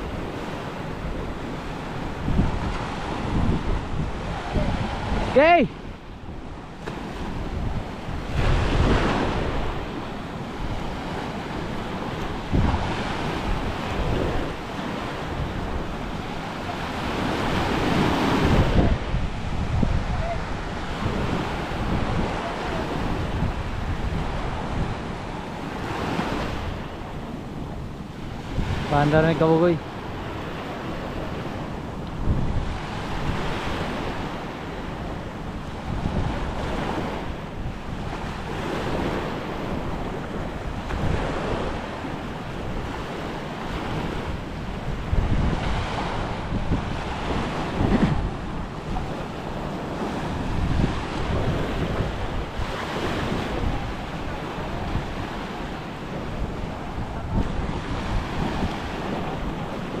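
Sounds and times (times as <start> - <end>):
surf washing up a sand beach: 0.0 - 60.0
wind buffeting microphone: 0.0 - 60.0.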